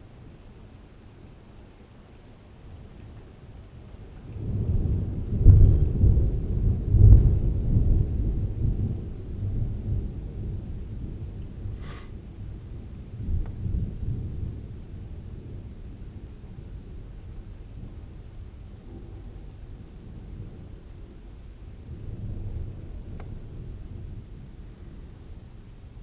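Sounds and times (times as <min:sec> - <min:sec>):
thunder rumbling: 0:03.6 - 0:26.0.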